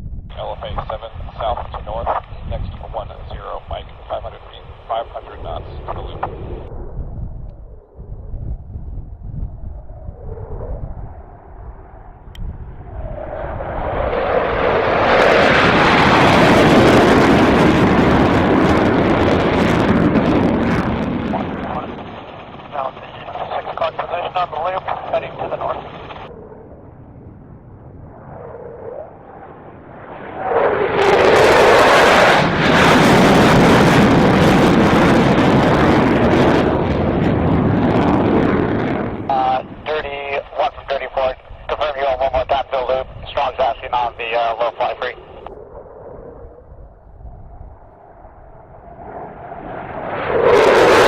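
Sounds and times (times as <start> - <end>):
jet roar flying past: 0.4 - 8.3, 9.5 - 51.0.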